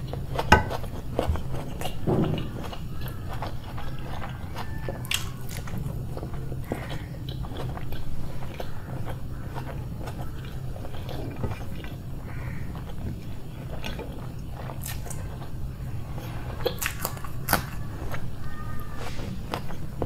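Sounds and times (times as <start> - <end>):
food crunches: 0.0 - 15.8, 16.5 - 20.0
person chewing food: 0.0 - 20.0
steady low hum: 0.0 - 20.0.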